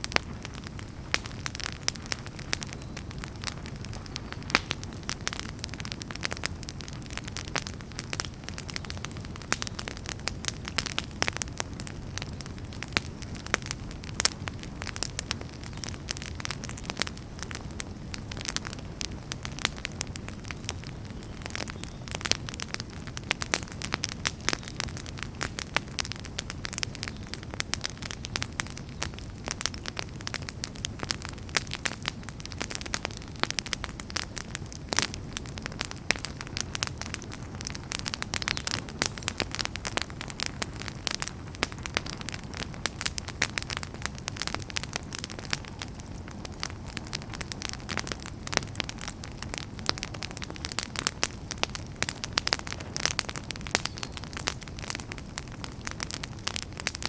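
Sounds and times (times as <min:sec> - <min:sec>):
rumble of flames: 0:00.0 - 0:57.0
wood fire crackling: 0:00.0 - 0:57.0.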